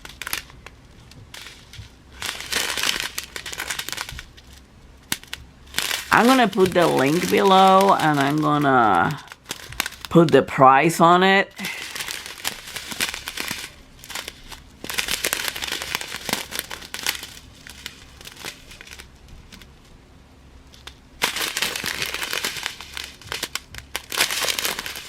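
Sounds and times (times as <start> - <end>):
plastic bags crinkling: 0.0 - 19.9, 20.6 - 25.0.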